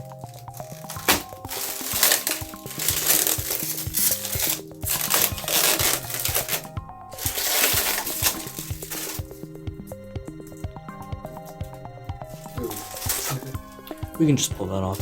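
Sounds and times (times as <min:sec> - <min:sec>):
plastic film crinkling: 0:00.0 - 0:09.5, 0:12.2 - 0:15.0
electronic background music: 0:00.0 - 0:15.0.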